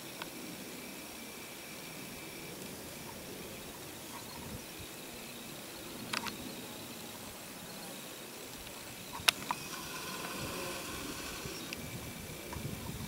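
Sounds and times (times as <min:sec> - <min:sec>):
soft steady hiss: 0:00.0 - 0:13.0.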